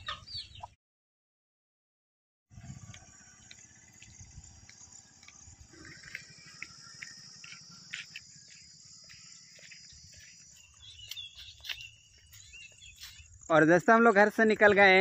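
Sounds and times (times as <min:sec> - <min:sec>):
insect chorus: 0:02.5 - 0:15.0
soft footsteps on dirt path: 0:02.6 - 0:15.0.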